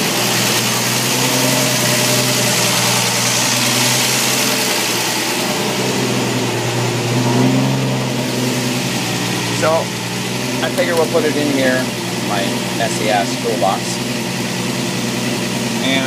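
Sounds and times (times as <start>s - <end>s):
car engine fast idle: 0.0s - 16.0s.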